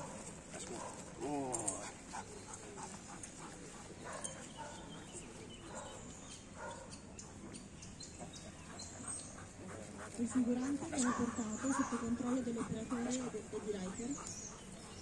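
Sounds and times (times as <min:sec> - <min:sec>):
faint dog sounds: 0:00.0 - 0:15.0.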